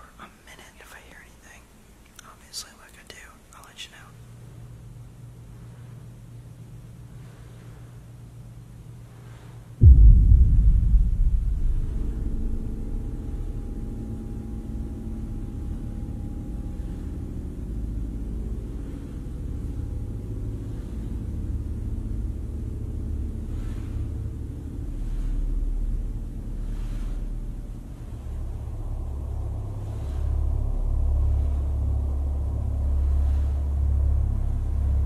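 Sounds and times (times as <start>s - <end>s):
faint hum of held tones: 0.0s - 35.0s
low rumbling drone: 4.3s - 35.0s.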